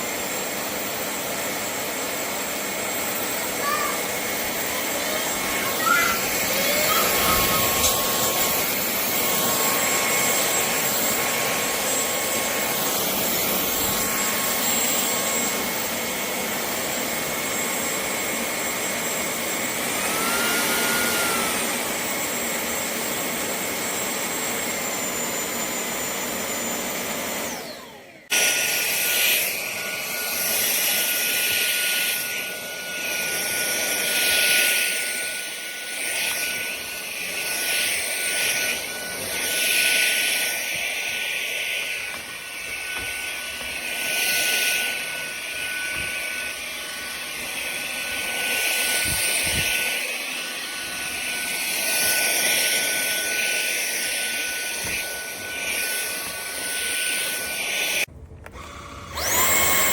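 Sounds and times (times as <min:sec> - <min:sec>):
stick vacuum motor whine: 0:00.0 - 0:59.9.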